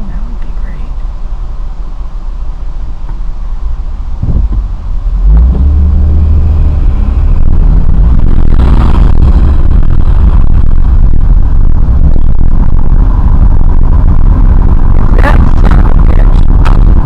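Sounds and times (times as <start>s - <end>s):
car engine rumble from inside: 0.0s - 17.0s.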